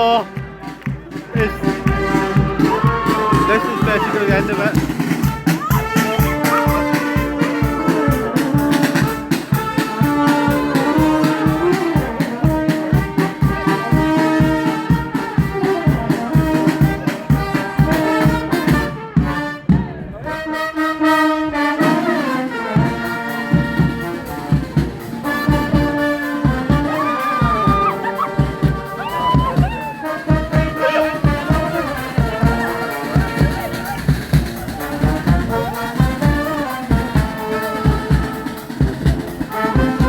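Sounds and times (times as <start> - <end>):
street brass band playing: 0.0 - 40.0.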